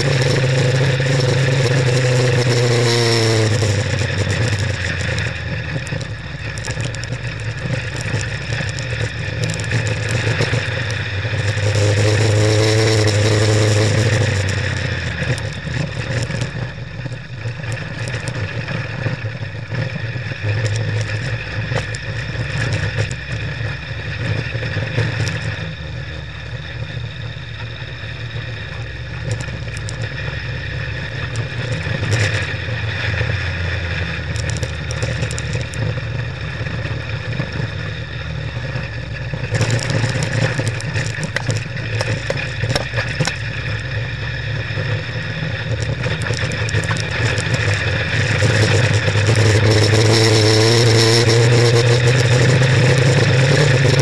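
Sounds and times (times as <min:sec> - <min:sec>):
buggy engine under hard throttle: 0:00.0 - 0:54.0.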